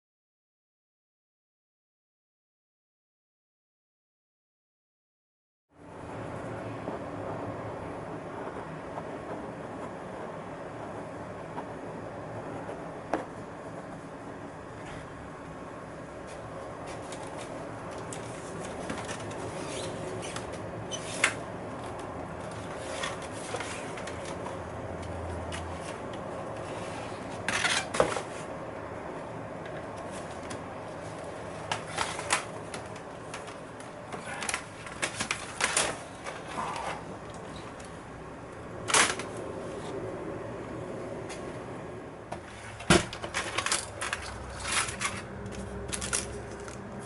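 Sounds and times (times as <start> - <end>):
steady background hum: 5.8 - 47.0.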